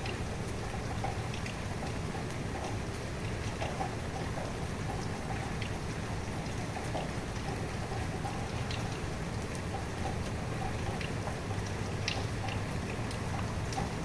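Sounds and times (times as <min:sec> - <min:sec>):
raindrops pattering on surface: 0:00.0 - 0:14.0
steady rain falling: 0:00.0 - 0:14.0.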